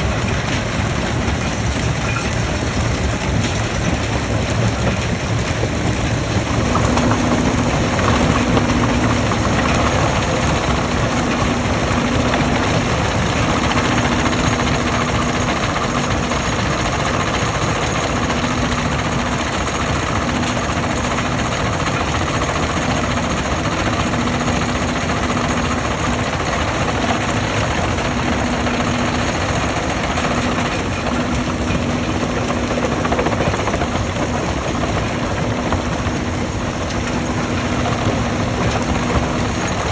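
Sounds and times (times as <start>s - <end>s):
stone crushing machinery running: 0.0s - 39.9s.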